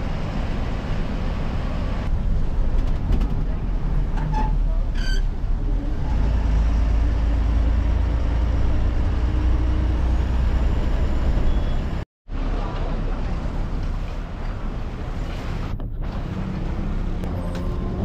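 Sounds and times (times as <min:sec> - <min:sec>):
bus engine rumble: 0:00.0 - 0:18.0
road noise: 0:00.0 - 0:18.0.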